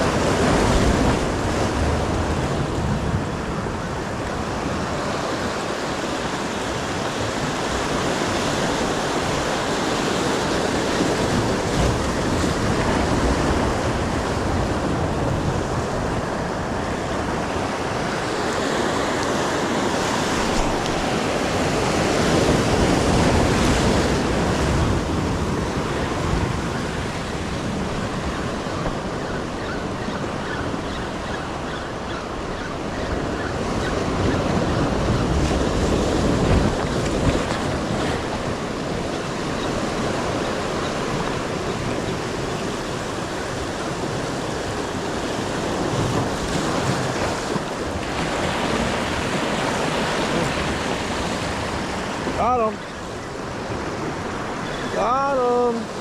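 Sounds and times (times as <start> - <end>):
wind rumbling on microphone: 0.0 - 55.1
ocean surf on shoreline: 0.0 - 56.0.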